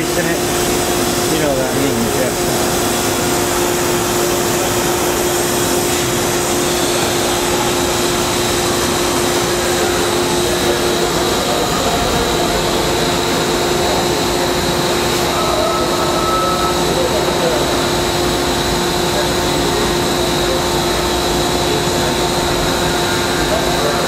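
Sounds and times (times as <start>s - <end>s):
higher machine whine: 0.0s - 24.0s
machine spindle whine: 0.0s - 24.0s.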